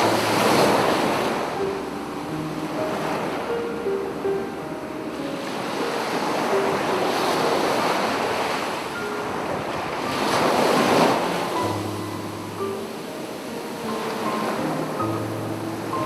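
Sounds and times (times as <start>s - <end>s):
sea waves breaking on beach: 0.0s - 4.4s, 5.0s - 16.0s.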